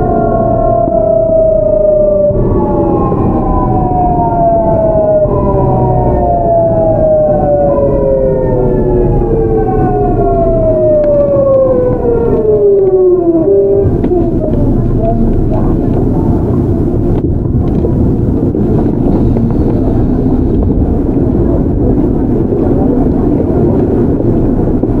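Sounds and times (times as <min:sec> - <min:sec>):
low train rumble: 0:00.0 - 0:25.0
train inverter whine: 0:00.0 - 0:25.0.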